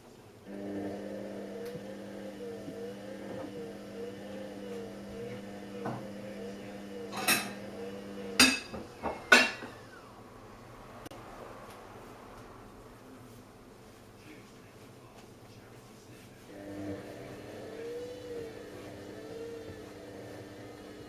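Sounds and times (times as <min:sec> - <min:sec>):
washing machine humming: 0:00.0 - 0:14.0, 0:16.2 - 0:21.0.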